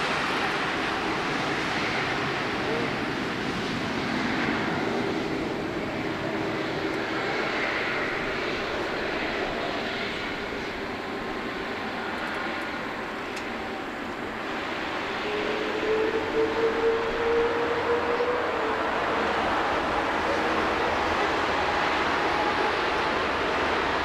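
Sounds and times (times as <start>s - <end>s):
jet engines taxiing: 0.0s - 24.0s.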